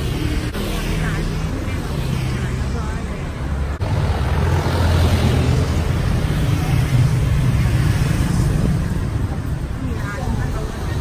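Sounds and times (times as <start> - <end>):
cars and motorbikes passing: 0.0 - 11.0.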